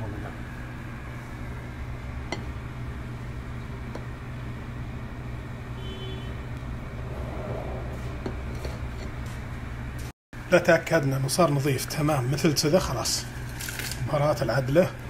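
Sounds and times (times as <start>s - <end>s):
gas burner rumble: 0.0s - 15.0s.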